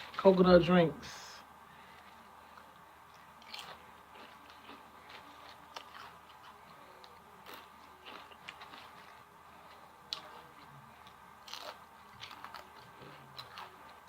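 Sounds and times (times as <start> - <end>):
person chewing crunchy food: 2.0 - 14.0.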